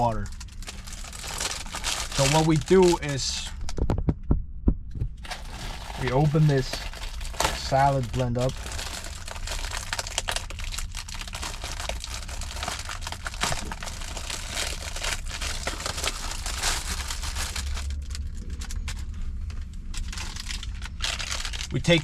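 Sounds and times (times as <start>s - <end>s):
plastic bag crinkling: 0.0s - 3.8s, 5.2s - 19.1s, 19.9s - 22.0s
steady low hum: 0.0s - 22.0s.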